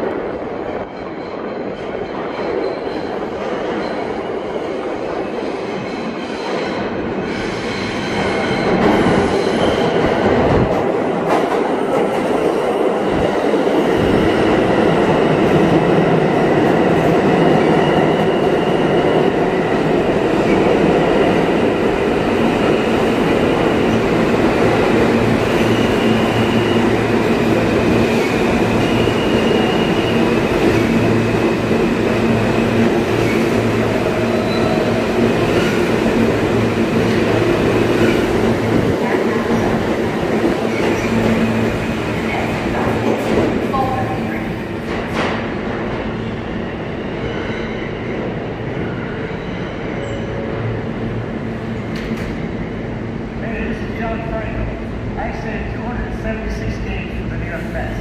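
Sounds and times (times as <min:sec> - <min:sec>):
subway train rumbling on rails: 0:00.0 - 0:58.0.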